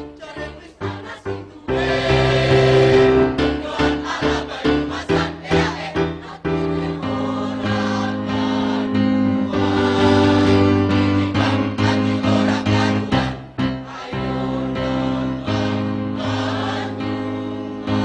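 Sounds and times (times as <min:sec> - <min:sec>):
choir singing with accompaniment: 0:00.0 - 0:18.0.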